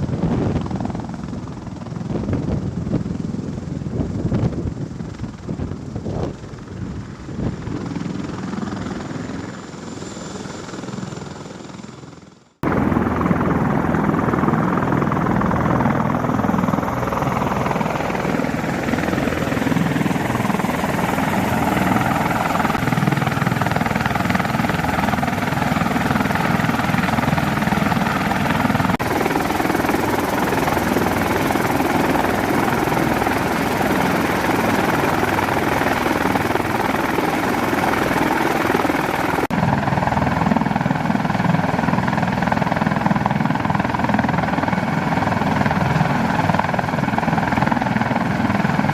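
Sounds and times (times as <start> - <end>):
helicopter rotor and engine: 0.0 - 48.9.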